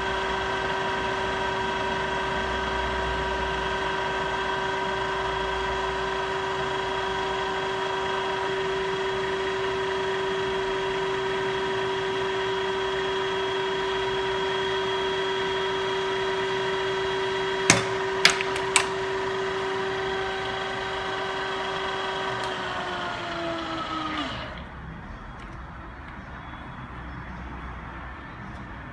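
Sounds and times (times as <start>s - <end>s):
milling machine whining: 0.0s - 26.2s.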